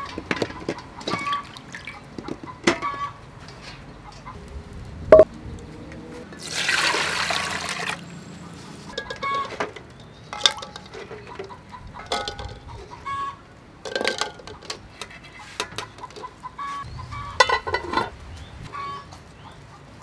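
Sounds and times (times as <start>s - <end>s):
chickens clucking: 0.0s - 4.4s, 8.4s - 20.0s.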